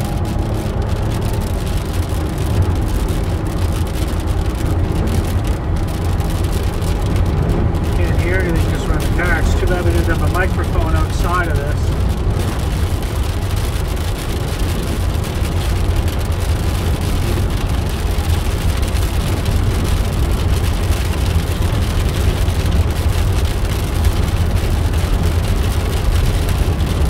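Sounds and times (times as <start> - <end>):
car cabin road noise: 0.0 - 27.0.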